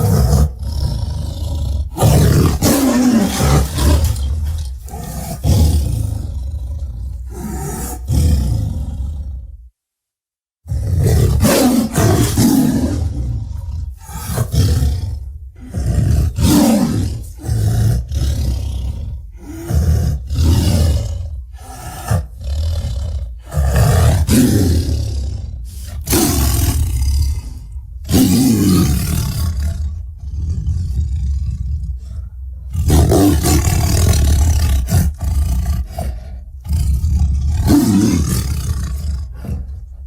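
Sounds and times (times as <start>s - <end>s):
monster roars and growls: 0.0s - 9.4s, 10.7s - 39.9s.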